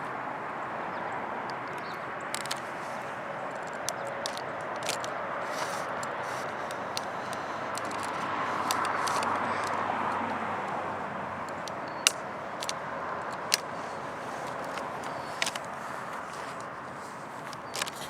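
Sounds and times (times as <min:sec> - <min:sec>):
vehicle passing by: 0:00.0 - 0:17.3
sharp clicks: 0:01.4 - 0:18.0.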